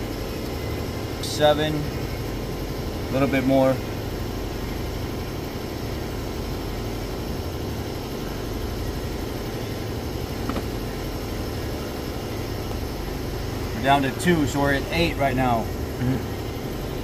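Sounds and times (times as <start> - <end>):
machinery hum and hiss: 0.0 - 17.0.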